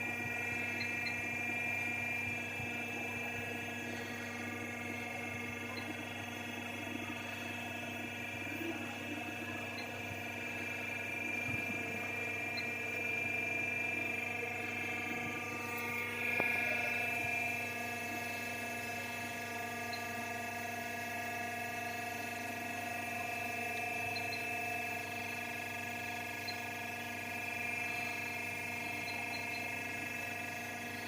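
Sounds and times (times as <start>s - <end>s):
machine high-pitched whine: 0.0s - 31.0s.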